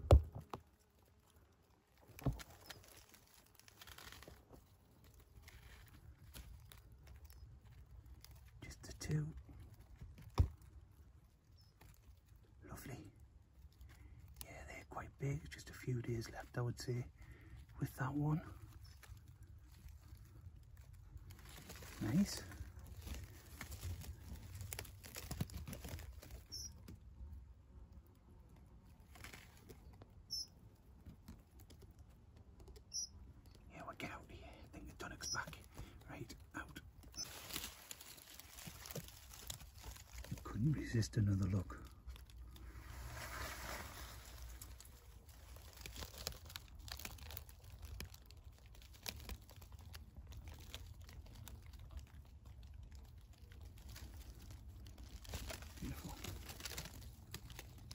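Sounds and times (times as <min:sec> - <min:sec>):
hedge leaves and twigs rustling: 0:00.0 - 0:14.4, 0:17.2 - 0:57.9.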